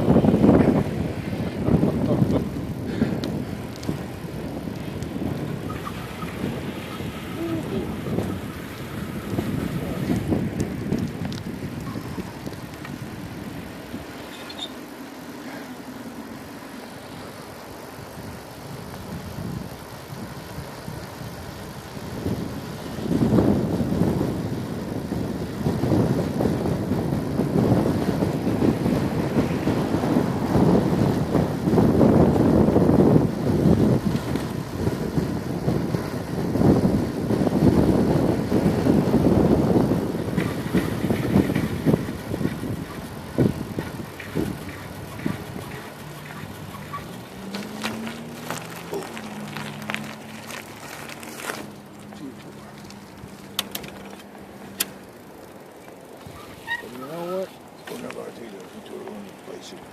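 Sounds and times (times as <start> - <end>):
bicycle tyre and road noise: 0.0 - 59.9
wind buffeting microphone: 0.0 - 59.9.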